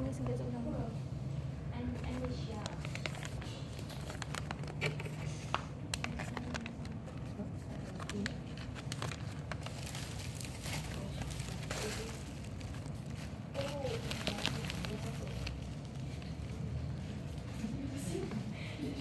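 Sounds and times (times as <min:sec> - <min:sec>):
packaging crinkling and rustling: 0:01.9 - 0:18.3.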